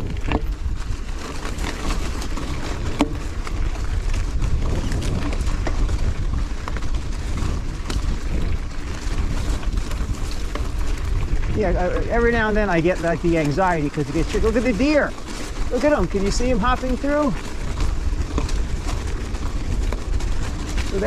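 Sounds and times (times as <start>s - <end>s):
bike clicks and rattles: 0.0s - 21.0s
mountain bike rolling on rough trail: 0.0s - 21.0s
wind buffeting microphone: 0.0s - 21.0s.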